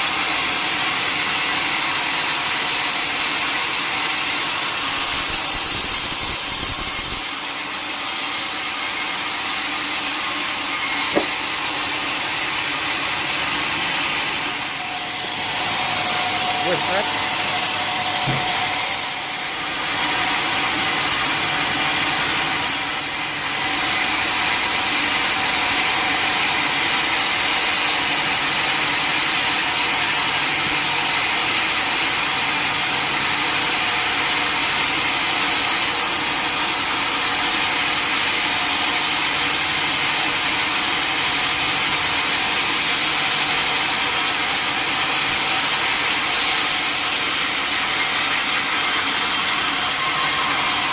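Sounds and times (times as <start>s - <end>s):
saw cutting through log: 0.0s - 50.9s.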